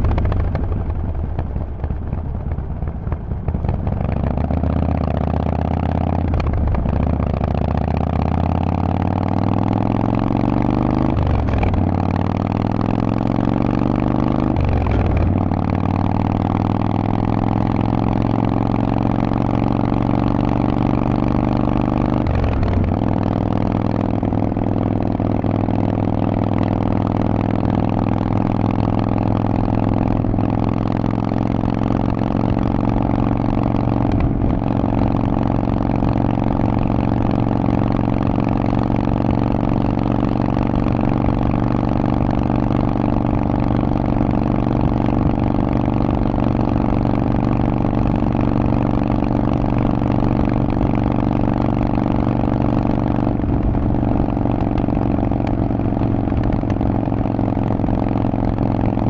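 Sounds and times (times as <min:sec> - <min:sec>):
motorcycle engine running steadily: 0:00.0 - 0:59.0.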